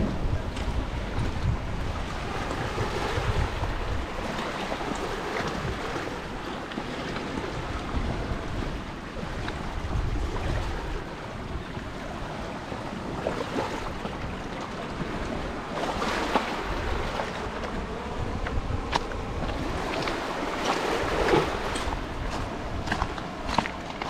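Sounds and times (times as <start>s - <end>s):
surf washing onto beach: 0.0s - 24.0s
wind buffeting microphone: 0.0s - 24.0s.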